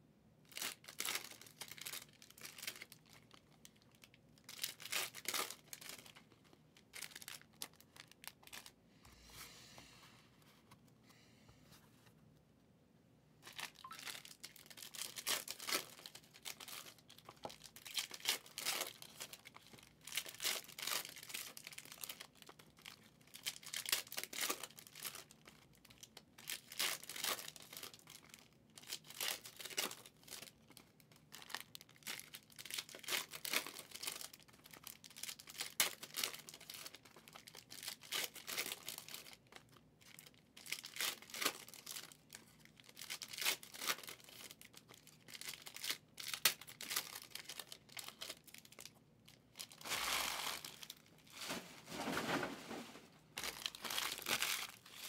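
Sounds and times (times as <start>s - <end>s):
foil wrappers tearing and crinkling: 0.5s - 8.7s, 13.5s - 48.9s, 49.6s - 52.5s, 53.4s - 55.0s.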